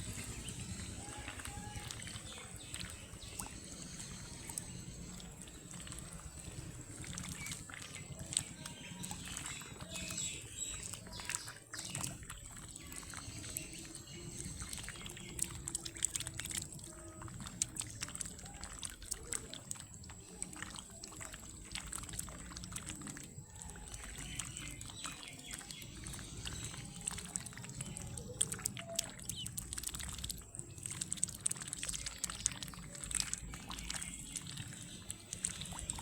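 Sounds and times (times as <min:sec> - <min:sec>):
ducklings splashing in water: 0:00.0 - 0:36.0.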